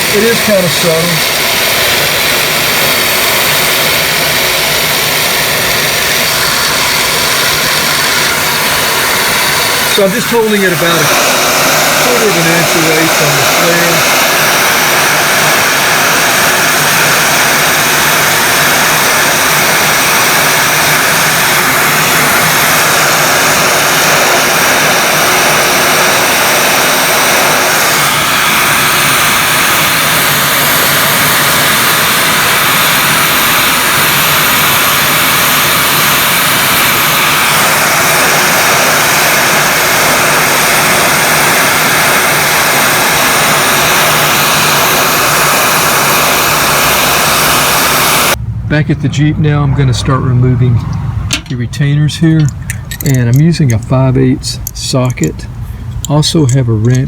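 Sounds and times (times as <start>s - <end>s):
heat gun blowing hot air: 0.0s - 48.4s.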